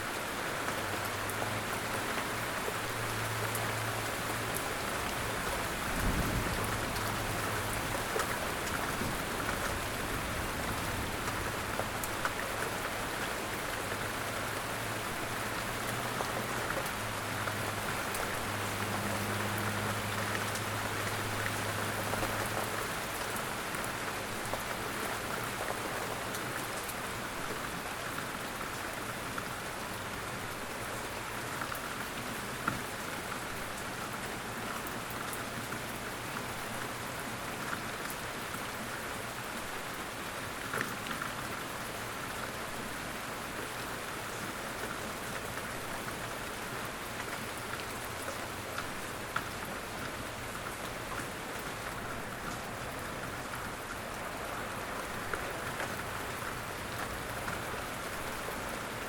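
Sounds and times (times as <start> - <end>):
light rain on leaves: 0.0 - 59.0.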